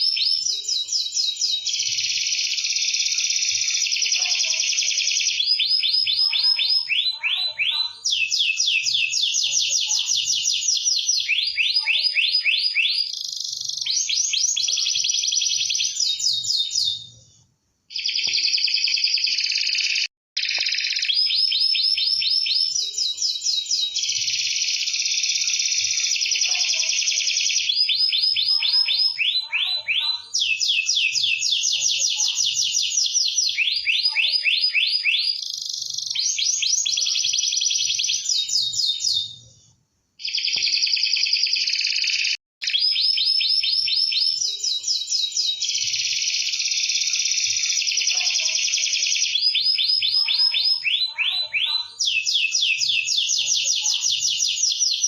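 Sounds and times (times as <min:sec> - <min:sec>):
canary singing trills: 0:00.0 - 0:17.3, 0:17.9 - 0:39.5, 0:40.2 - 0:55.0.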